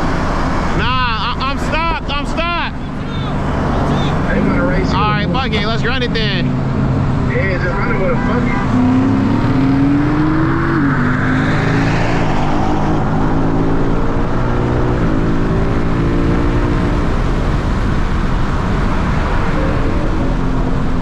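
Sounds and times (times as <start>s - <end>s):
car engine at full throttle: 0.0s - 21.0s
wind and road noise: 0.0s - 21.0s.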